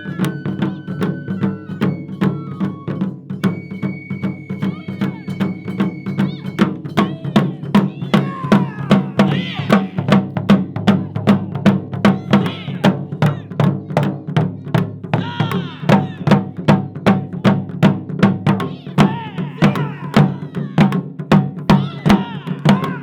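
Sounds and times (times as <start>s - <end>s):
taiko drums playing: 0.0s - 23.0s.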